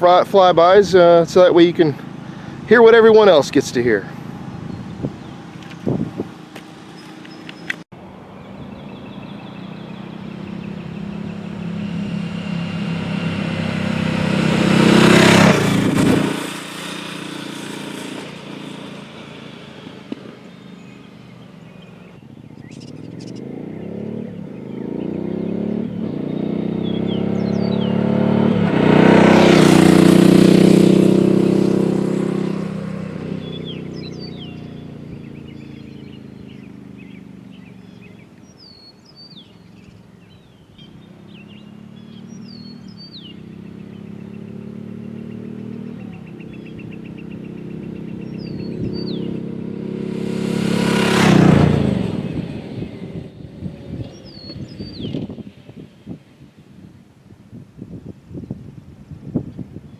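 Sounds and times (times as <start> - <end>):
motorcycle passing by: 0.0 - 59.9.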